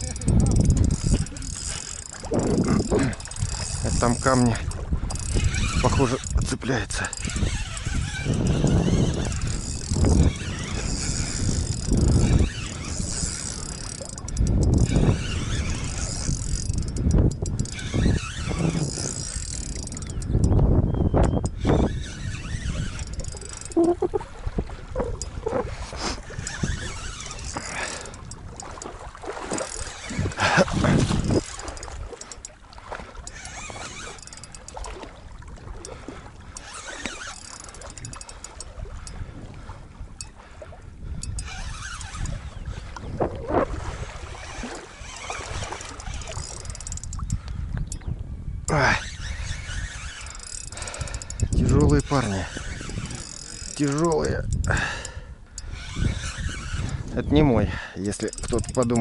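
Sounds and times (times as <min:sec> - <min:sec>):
spinning reel cranking: 0:00.0 - 0:20.6, 0:21.2 - 0:24.1, 0:26.0 - 0:28.8, 0:29.5 - 0:32.5, 0:33.3 - 0:34.9, 0:35.8 - 0:39.2, 0:41.2 - 0:43.1, 0:44.2 - 0:48.0, 0:48.7 - 0:59.0
reel clicking: 0:00.0 - 0:59.0
wind gusts on microphone: 0:00.0 - 0:59.0.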